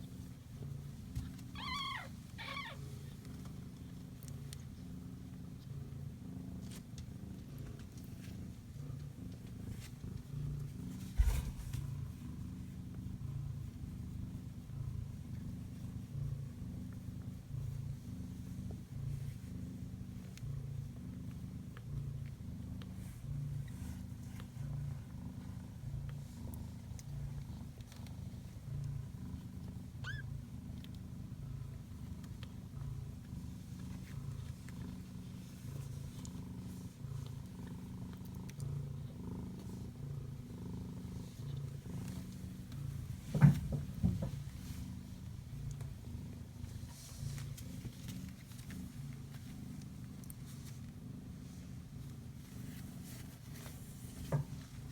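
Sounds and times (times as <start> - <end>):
kitten purring: 0.0 - 54.9.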